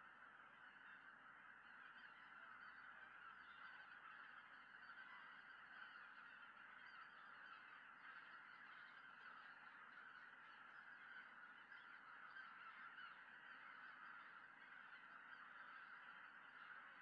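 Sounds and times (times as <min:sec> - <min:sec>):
geese honking in flight: 0:00.0 - 0:17.0.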